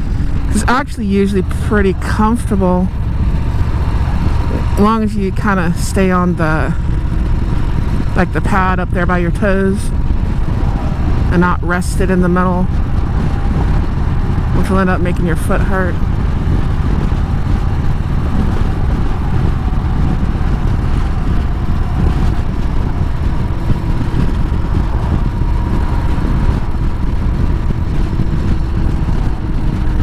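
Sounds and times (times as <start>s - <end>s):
motorcycle engine riding: 0.0s - 30.0s
wind rumble on microphone: 0.0s - 30.0s.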